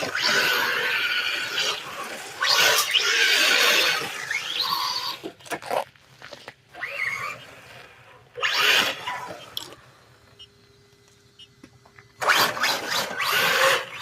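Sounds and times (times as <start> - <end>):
toy car motor and tyres rushing: 0.0 - 10.4, 12.1 - 14.0.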